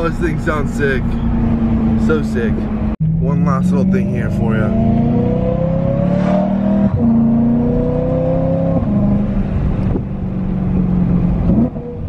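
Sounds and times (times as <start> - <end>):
car engine from inside cabin: 0.0 - 12.0
engine pitch shifting with gear changes: 0.0 - 12.0.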